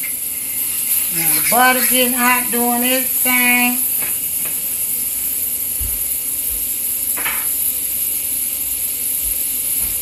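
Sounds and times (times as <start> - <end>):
butter sizzling in frying pan: 0.0 - 10.0.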